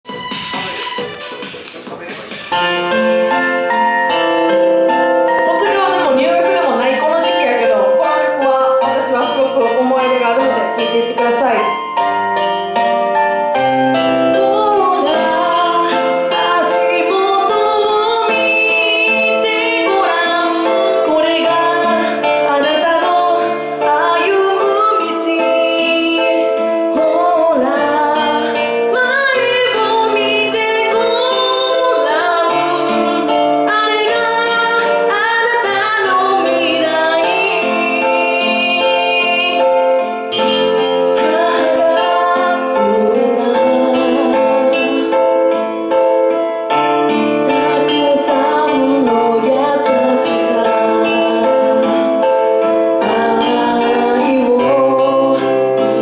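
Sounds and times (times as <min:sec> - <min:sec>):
piano accompaniment: 0:00.0 - 0:56.0
woman singing into a microphone: 0:05.3 - 0:11.8, 0:14.3 - 0:45.4, 0:47.4 - 0:56.0.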